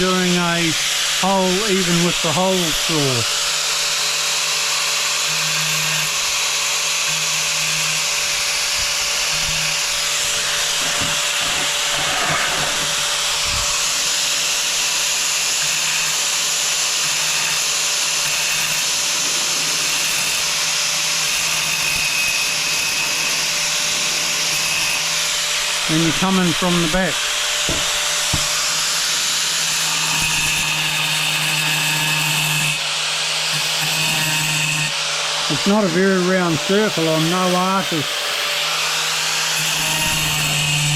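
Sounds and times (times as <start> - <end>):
angle grinder grinding tile: 0.0 - 40.9.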